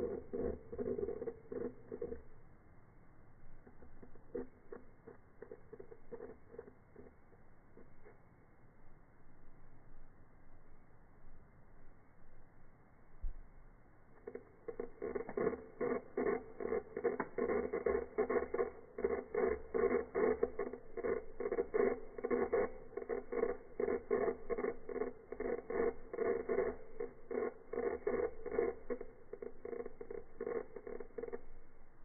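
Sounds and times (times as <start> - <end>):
muffled pulsing crackle: 0.0 - 32.0.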